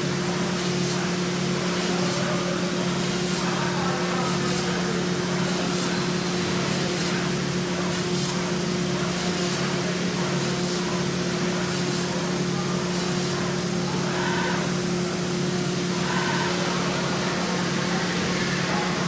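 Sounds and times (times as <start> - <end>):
milling machine humming and whirring: 0.0 - 19.0.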